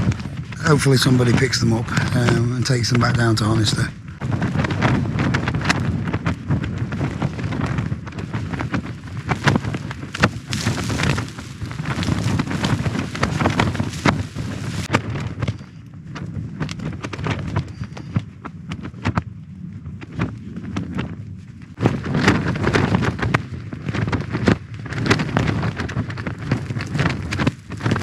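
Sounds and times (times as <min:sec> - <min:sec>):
tent fabric flapping and snapping: 0:00.0 - 0:01.6, 0:04.2 - 0:28.0
strong wind gusts: 0:00.0 - 0:28.0.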